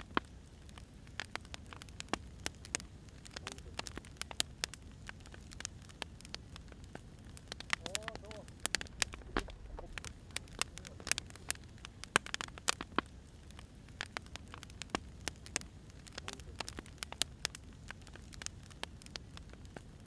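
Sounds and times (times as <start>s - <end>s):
firewood crackling and popping: 0.0s - 20.0s
low steady rumble: 0.0s - 20.0s.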